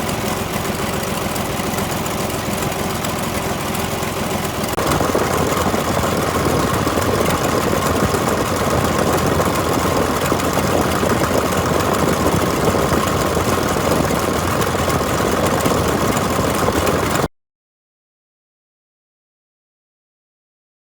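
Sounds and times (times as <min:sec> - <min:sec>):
excavator diesel engine running: 0:00.0 - 0:17.3.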